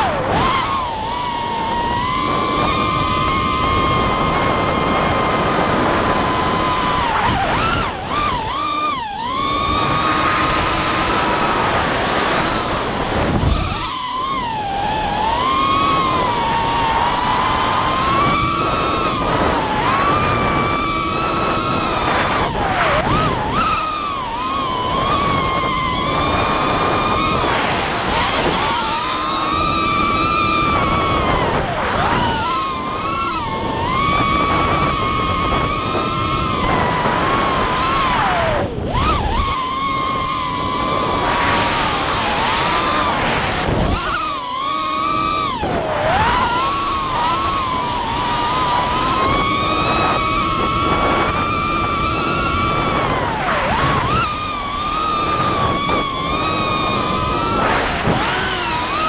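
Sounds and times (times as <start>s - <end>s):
quadcopter propellers whining: 0.0s - 59.0s.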